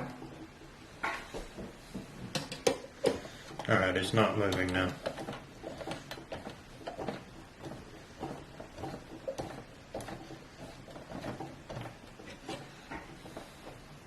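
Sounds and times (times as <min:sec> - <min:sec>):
small clicks taps and scrapes: 0:00.0 - 0:14.0.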